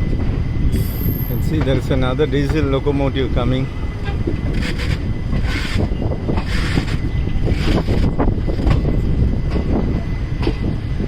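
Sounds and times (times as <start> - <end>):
train rumbling on rails: 0.0 - 11.0
wind on microphone: 0.0 - 11.0.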